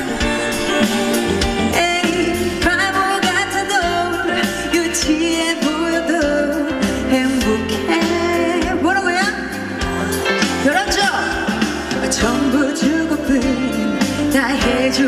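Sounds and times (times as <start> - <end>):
amplified backing music: 0.0 - 15.0
woman singing into microphone: 1.4 - 15.0.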